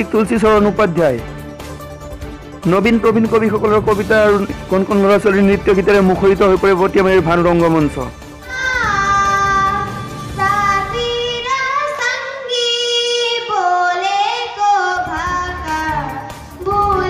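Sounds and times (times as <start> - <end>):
instrumental backing music: 0.0 - 17.0.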